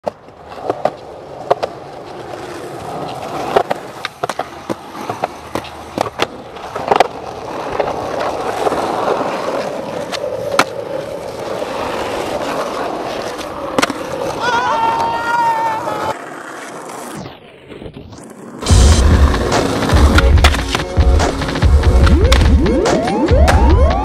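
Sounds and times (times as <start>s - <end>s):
skateboard clacks: 0.0s - 17.2s, 18.2s - 24.0s
skateboard wheels rolling on asphalt: 0.0s - 24.0s.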